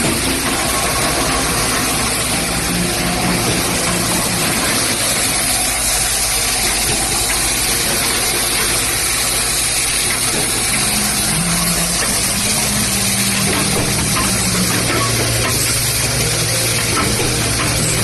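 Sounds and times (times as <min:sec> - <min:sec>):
low machine hum: 0:00.0 - 0:18.0
vibratory feeders hissing: 0:00.0 - 0:18.0.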